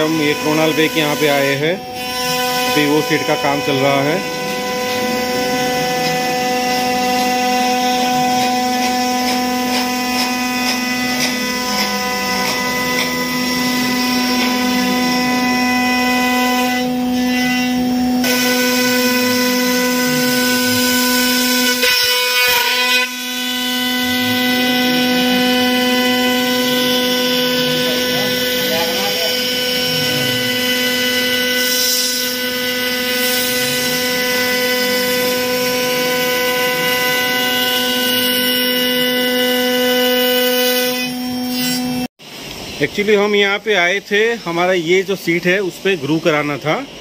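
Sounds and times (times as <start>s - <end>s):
router spindle whine: 0.0s - 47.0s.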